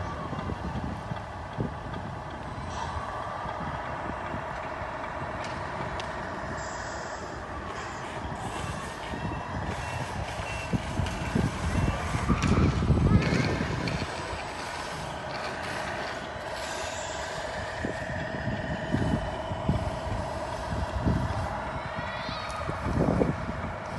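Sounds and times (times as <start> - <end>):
simulated truck engine running: 0.0 - 23.9.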